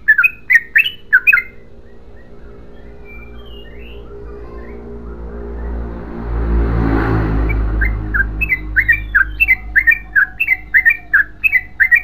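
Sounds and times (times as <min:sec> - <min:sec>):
bird singing bubbly notes: 0:00.0 - 0:06.0, 0:07.5 - 0:12.0
low rushing hum: 0:00.0 - 0:12.0.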